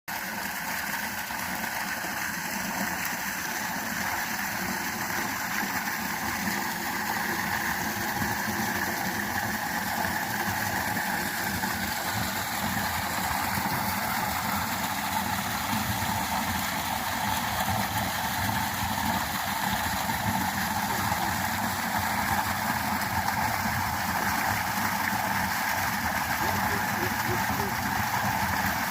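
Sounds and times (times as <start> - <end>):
water rushing: 0.1 - 28.9.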